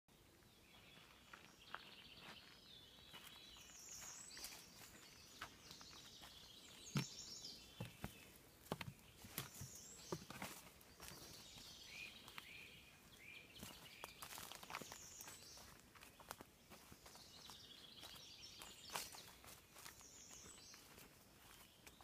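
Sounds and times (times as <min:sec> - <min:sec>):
birds singing: 0:00.1 - 0:22.0
footsteps on dirt trail: 0:00.7 - 0:22.0.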